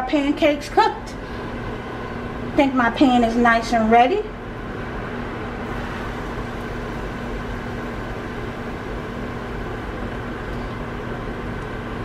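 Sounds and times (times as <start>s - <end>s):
fan hum with hiss: 0.0s - 12.0s.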